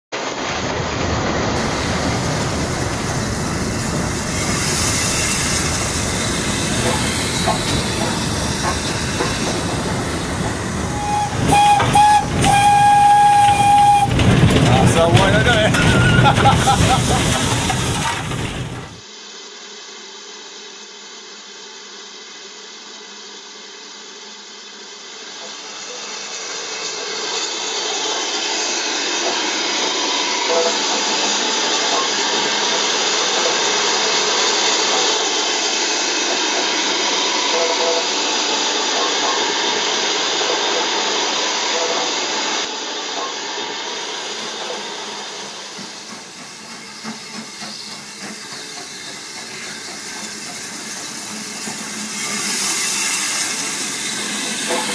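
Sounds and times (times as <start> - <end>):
steam locomotive hissing steam: 0.2 - 19.1, 25.2 - 54.9.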